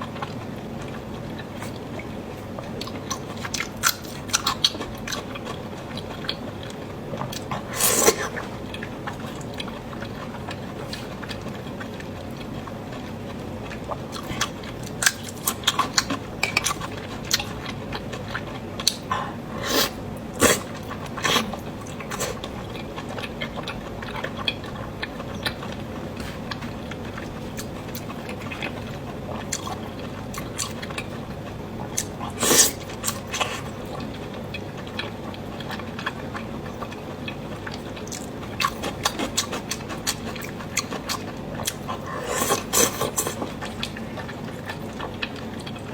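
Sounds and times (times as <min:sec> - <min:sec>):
close chewing of noodles: 0:00.0 - 0:45.9.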